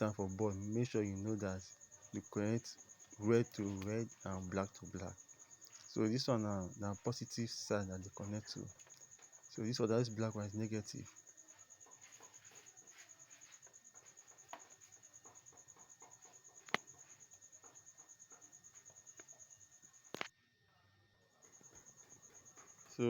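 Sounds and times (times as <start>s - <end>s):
cricket trilling: 0.0s - 20.3s, 21.3s - 23.0s.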